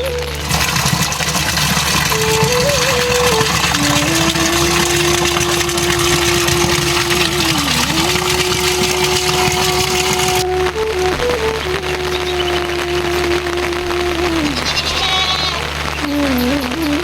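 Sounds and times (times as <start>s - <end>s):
heavy rain hissing: 0.0s - 17.0s
slow background music: 0.0s - 17.0s.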